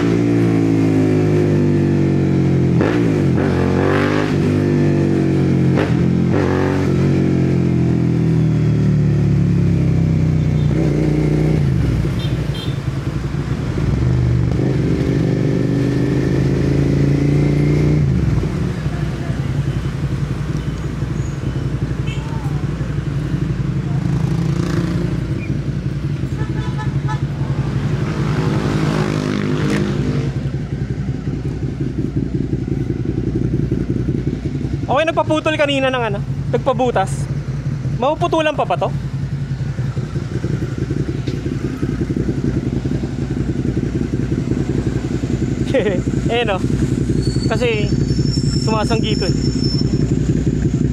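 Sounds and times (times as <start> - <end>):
motorcycle engine while riding: 0.0 - 50.9.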